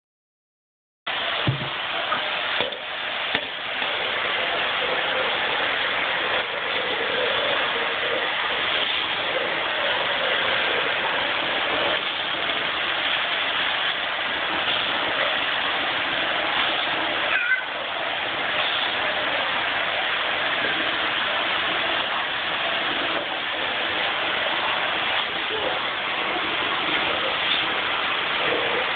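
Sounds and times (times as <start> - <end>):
vacuum cleaner running: 1.1 - 28.9.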